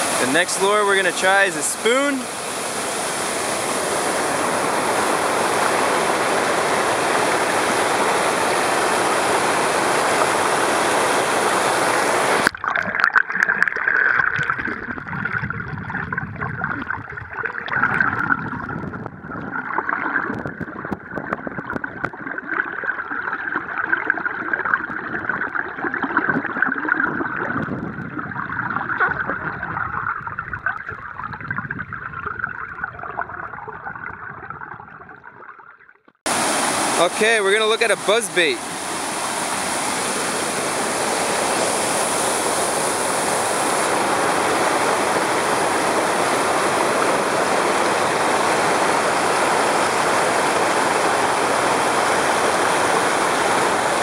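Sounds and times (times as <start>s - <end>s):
underwater water rushing: 0.0s - 54.0s
water gurgling: 0.0s - 54.0s.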